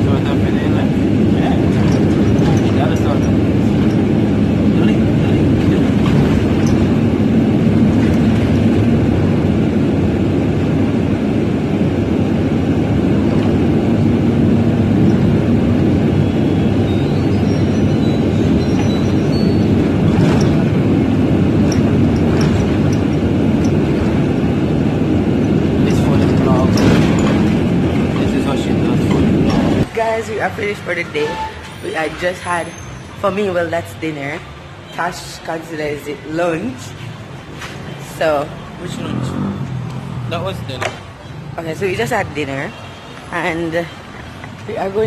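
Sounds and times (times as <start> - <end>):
bus engine and road rumble: 0.0 - 45.0.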